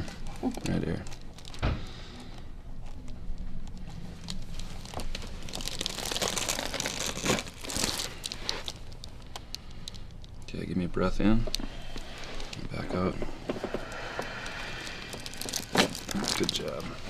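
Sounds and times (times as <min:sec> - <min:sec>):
rustling and crinkling on treatment table: 0:00.0 - 0:10.4, 0:11.3 - 0:17.0.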